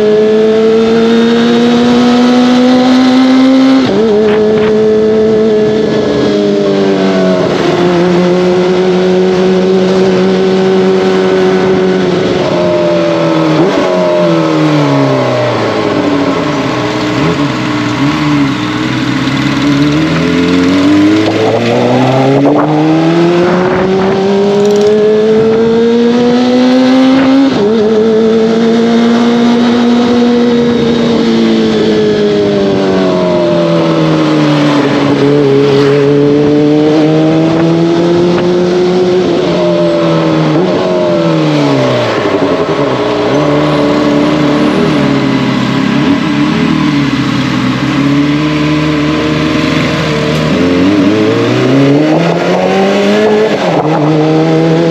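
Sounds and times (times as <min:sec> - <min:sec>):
motorcycle engine revving: 0:00.0 - 0:54.9
road noise: 0:00.0 - 0:54.9.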